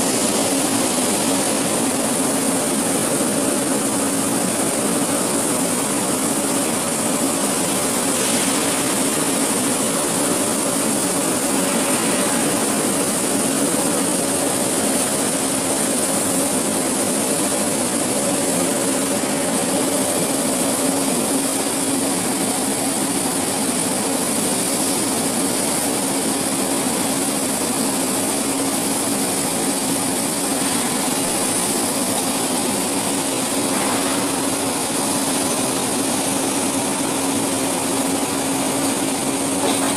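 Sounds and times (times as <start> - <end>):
machinery hum and hiss: 0.0 - 39.9.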